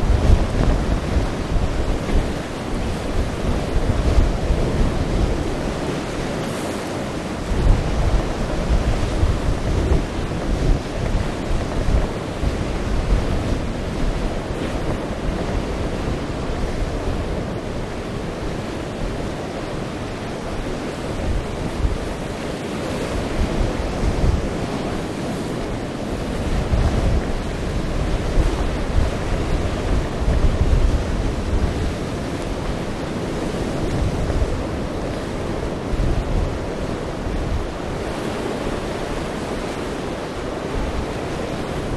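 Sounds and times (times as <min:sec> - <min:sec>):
waves surging and breaking: 0:00.0 - 0:41.9
wind buffeting microphone: 0:00.0 - 0:41.9.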